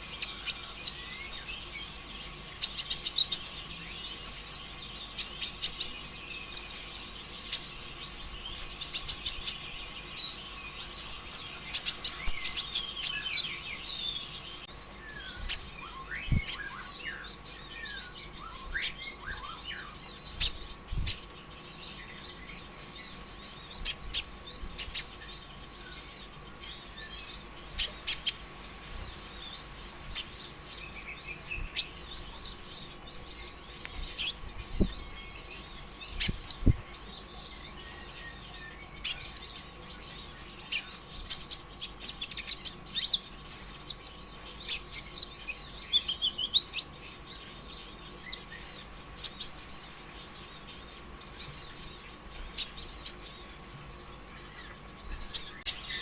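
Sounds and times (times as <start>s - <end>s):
faint steady hum: 0.0s - 56.0s
sunbird chirping and trilling: 0.0s - 56.0s.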